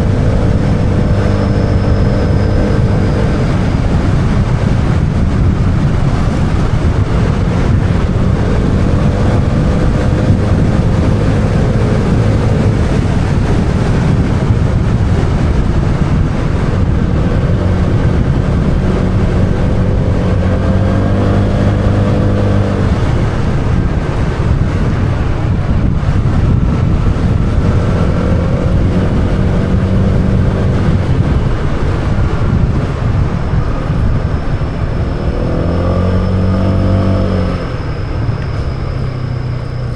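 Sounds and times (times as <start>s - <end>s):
motorbike engine revving: 0.0s - 39.9s
wind noise on microphone: 0.0s - 39.9s.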